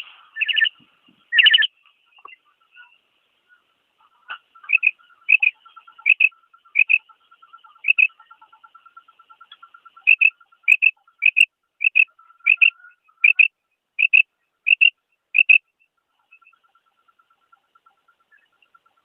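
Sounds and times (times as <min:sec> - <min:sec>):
quail calling: 0:00.0 - 0:19.0.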